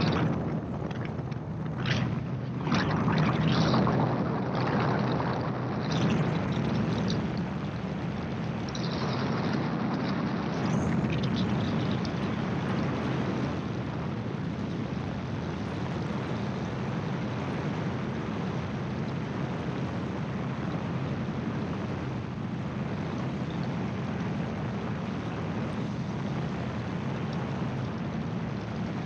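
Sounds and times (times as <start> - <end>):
wind rush on microphone: 0.0 - 29.0.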